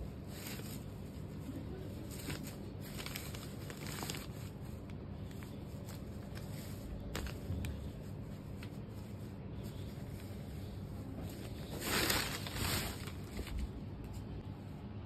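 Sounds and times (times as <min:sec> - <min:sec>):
cloth rustling: 0:00.0 - 0:14.4
steady low rumble: 0:00.0 - 0:15.0.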